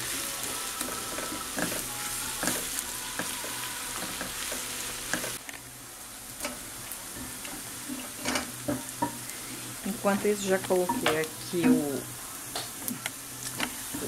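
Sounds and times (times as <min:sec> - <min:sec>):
food sizzling in butter: 0:00.0 - 0:14.0.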